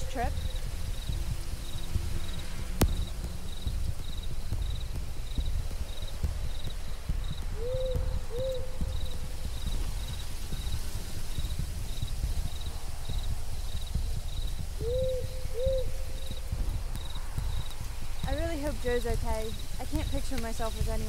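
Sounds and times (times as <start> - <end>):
crickets chirping: 0.0 - 21.0
low rumble: 0.0 - 21.0.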